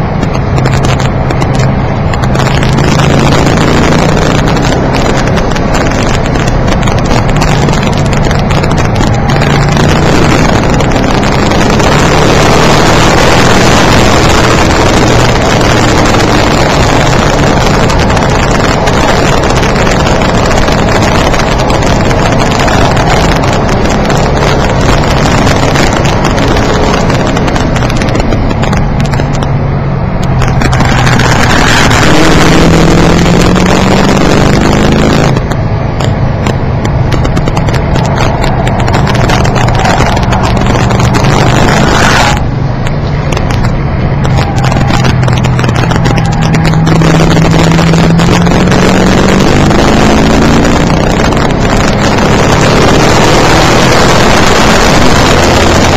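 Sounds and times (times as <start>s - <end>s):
car engine accelerating: 0.0s - 55.9s
road noise inside car: 0.0s - 55.9s.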